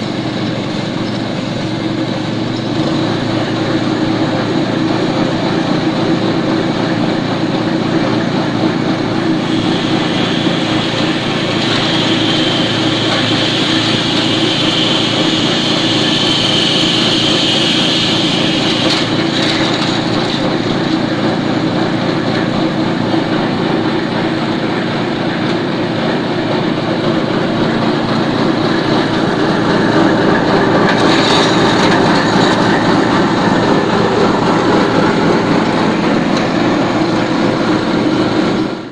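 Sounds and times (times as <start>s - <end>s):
small petrol engine running: 0.0s - 38.9s.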